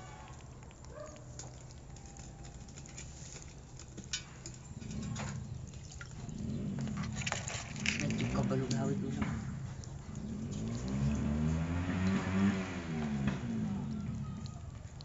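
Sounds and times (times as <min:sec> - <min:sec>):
water sloshing in steel pot: 0:00.0 - 0:15.0.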